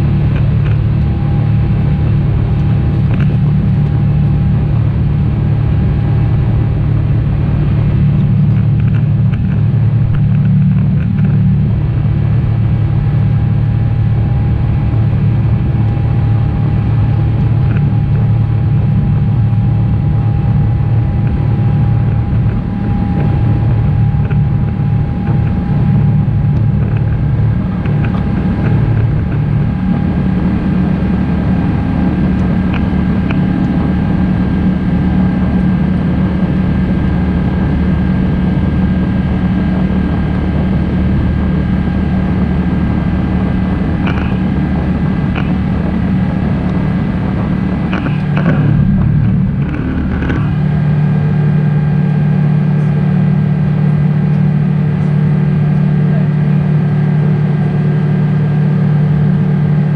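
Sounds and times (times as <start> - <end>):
jet engine cabin drone: 0.0 - 59.9
thin steady whine: 0.0 - 59.9.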